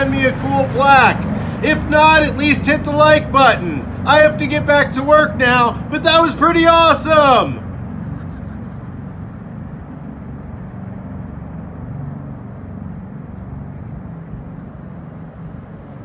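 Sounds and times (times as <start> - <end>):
distant aircraft rotor rumble: 0.0 - 16.0.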